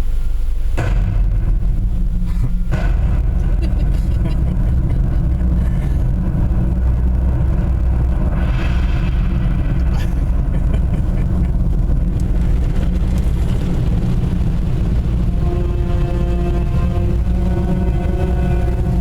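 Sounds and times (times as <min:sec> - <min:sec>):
car wash equipment rumbling: 0:00.0 - 0:19.0.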